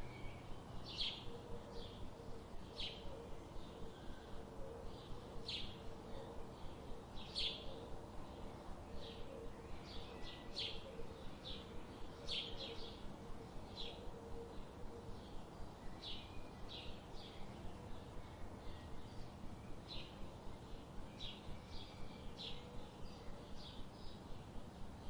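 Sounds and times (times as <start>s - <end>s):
background hiss: 0.0s - 25.0s
faint low hum: 0.0s - 25.0s.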